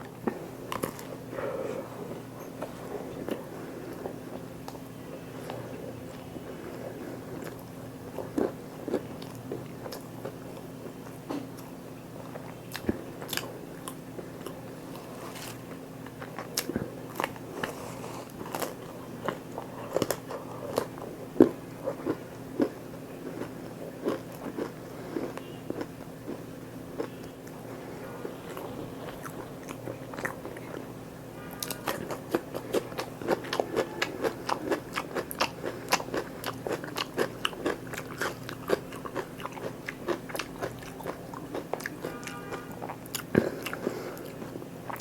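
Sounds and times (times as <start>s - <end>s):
faint low hum: 0.0s - 45.0s
crunchy biting and chewing: 0.2s - 1.2s, 5.4s - 45.0s.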